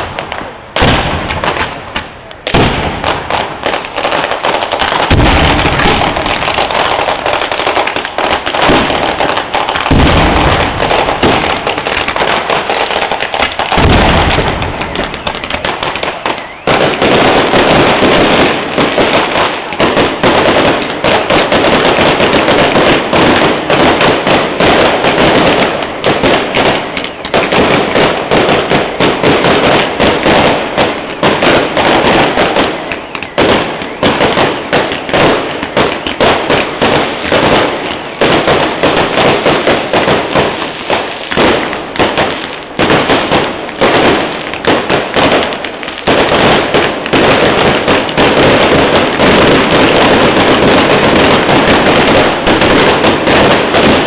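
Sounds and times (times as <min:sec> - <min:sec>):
fireworks cracking and banging: 0:00.0 - 0:54.0.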